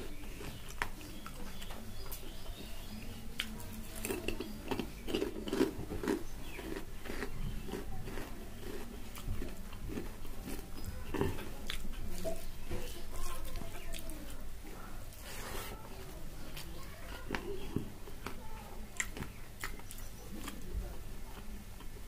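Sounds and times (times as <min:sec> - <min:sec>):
person chewing food: 0:00.0 - 0:20.7.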